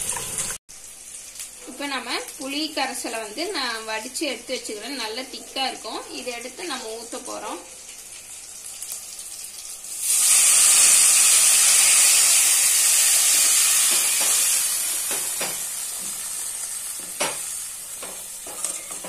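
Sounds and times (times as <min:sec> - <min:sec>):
liquid sizzling in hot oil: 0:00.0 - 0:19.0.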